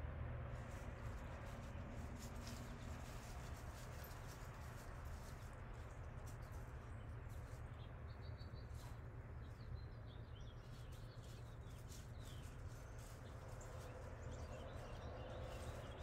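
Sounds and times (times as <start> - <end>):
small birds chirping: 2.4 - 16.0.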